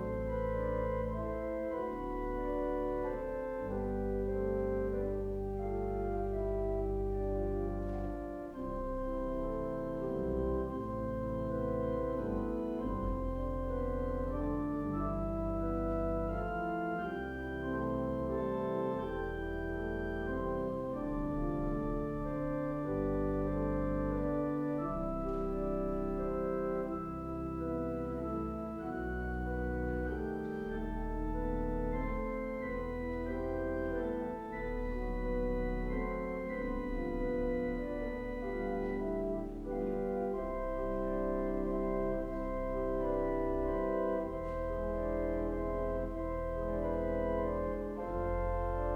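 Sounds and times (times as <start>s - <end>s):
organ playing slow chords: 0.0s - 48.9s.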